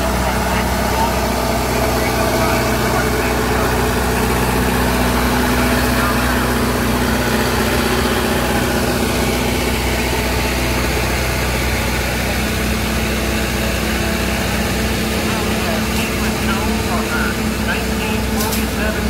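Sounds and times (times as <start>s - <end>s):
grader engine running: 0.0s - 19.0s.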